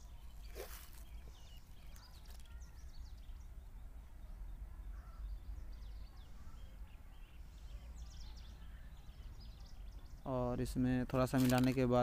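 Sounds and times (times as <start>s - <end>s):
bird chirps: 0.0s - 11.8s.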